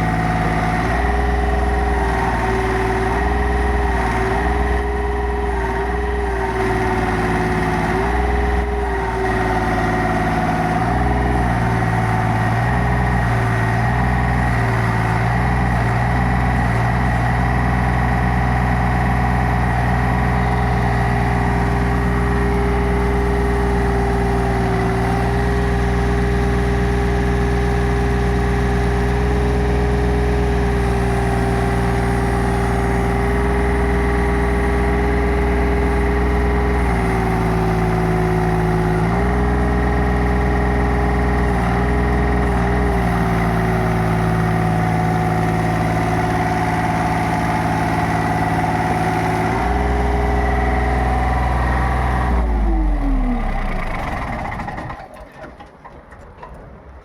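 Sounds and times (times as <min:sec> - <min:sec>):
pile driver engine running: 0:00.0 - 0:57.0.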